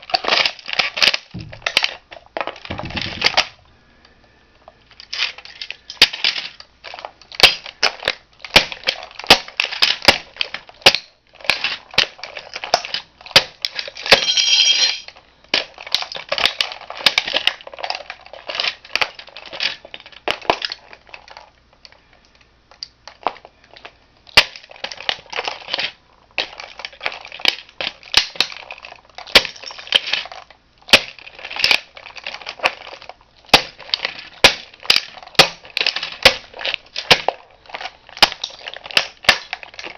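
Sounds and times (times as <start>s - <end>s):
plastic toy crushed underfoot: 0.0s - 3.6s, 4.9s - 22.0s, 22.7s - 39.9s.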